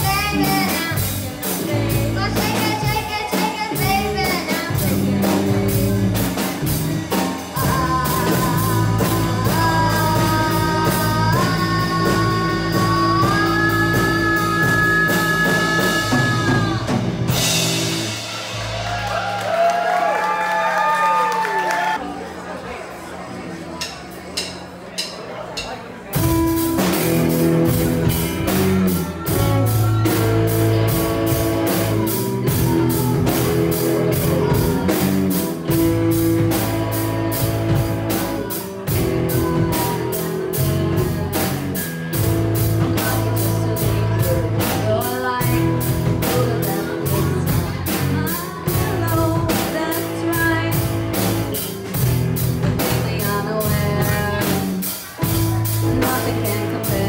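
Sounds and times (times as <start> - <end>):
electric guitar chords: 0.0 - 19.6, 26.2 - 57.0
bass guitar: 0.0 - 22.0, 26.1 - 57.0
drum kit beat: 0.0 - 22.0, 23.8 - 57.0.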